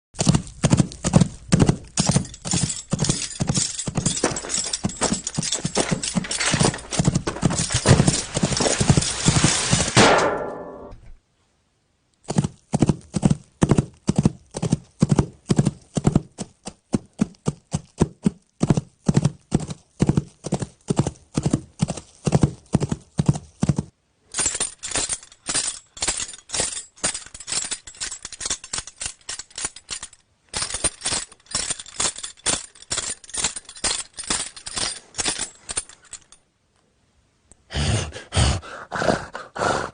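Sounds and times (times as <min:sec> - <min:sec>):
hoofbeats clip-clop: 0:00.2 - 0:09.9, 0:12.3 - 0:36.4.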